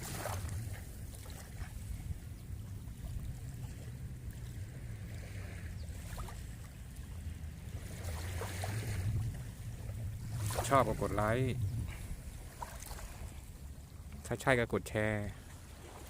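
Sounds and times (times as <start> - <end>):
sea surf: 0.0 - 16.0
wind rumble on microphone: 0.0 - 16.0.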